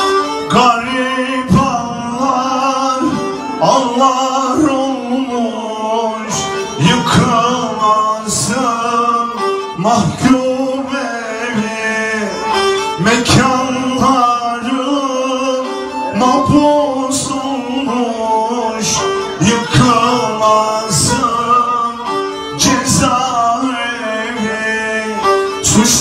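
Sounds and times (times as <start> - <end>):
bowed fiddle playing folk tune: 0.0 - 26.0
man singing: 0.0 - 26.0.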